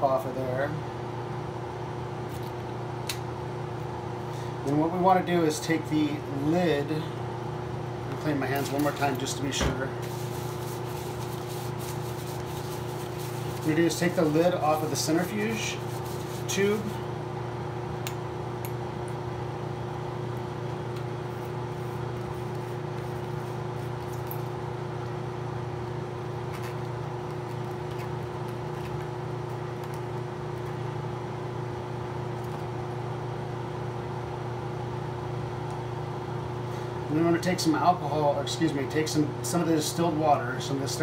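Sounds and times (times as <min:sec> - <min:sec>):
blower fan humming: 0:00.0 - 0:41.0.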